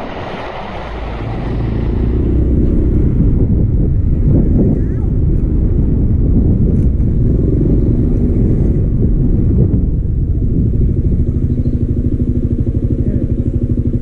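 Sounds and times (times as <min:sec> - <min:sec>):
scooter engine: 0:00.0 - 0:14.0
wind and road noise: 0:00.0 - 0:14.0.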